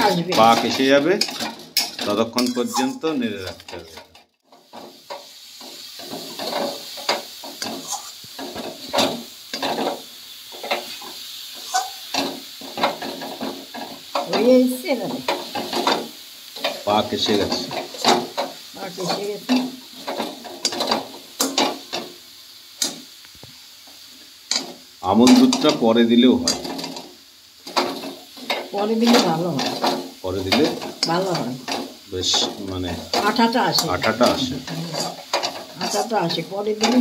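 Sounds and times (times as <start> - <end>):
metal spatula scraping a pan: 0.0 - 22.2, 24.5 - 37.0
faint steady hiss: 0.0 - 37.0.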